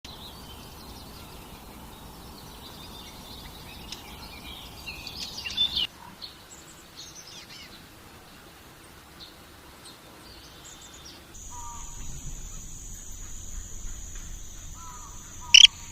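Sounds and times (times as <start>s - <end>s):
birds chirping: 0.0s - 8.4s, 9.2s - 15.9s
steady background hiss: 0.1s - 15.9s.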